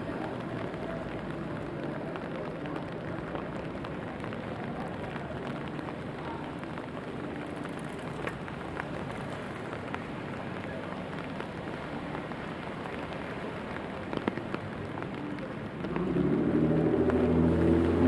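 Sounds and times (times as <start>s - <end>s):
rain falling steadily: 0.0s - 18.0s
raindrop ticks: 0.0s - 18.0s.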